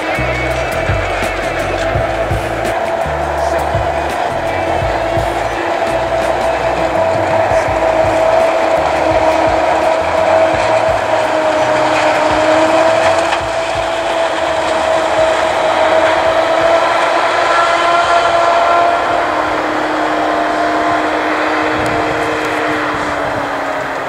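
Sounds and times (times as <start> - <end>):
forage harvester drone and whine: 0.0 - 24.0.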